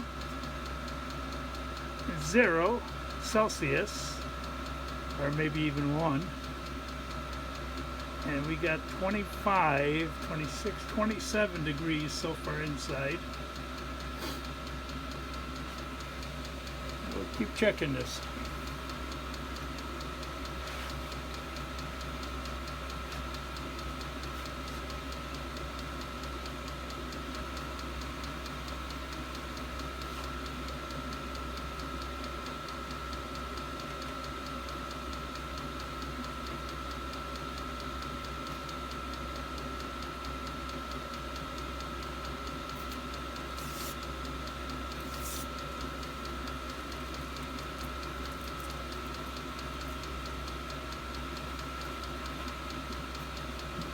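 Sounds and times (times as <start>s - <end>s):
air heater humming: 0.0s - 53.9s
blower fan whine: 0.0s - 53.9s.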